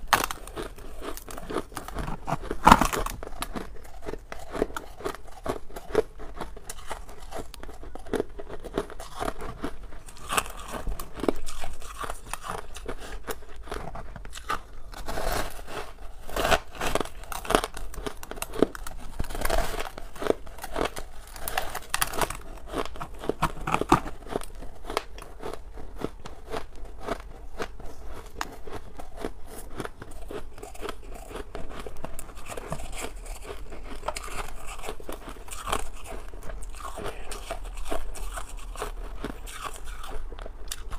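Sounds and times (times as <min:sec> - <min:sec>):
person chewing ice: 0:00.0 - 0:40.9.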